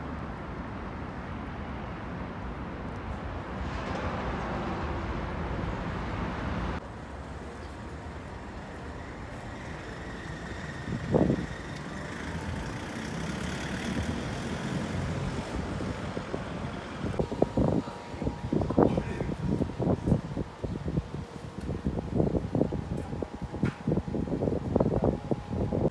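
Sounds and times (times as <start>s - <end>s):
road traffic passing: 0.0s - 25.9s.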